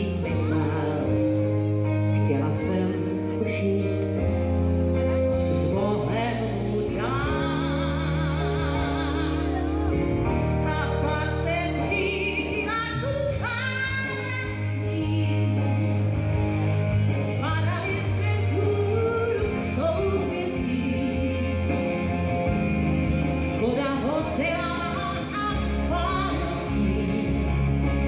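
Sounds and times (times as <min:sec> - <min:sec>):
bass notes: 0:00.0 - 0:28.0.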